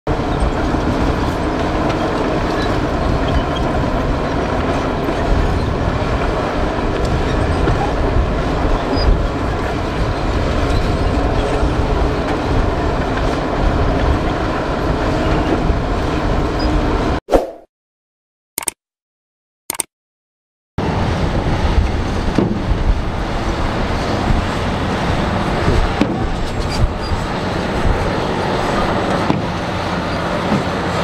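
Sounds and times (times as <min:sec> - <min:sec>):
heavy diesel machinery rumble: 0:00.1 - 0:17.2, 0:20.8 - 0:31.0.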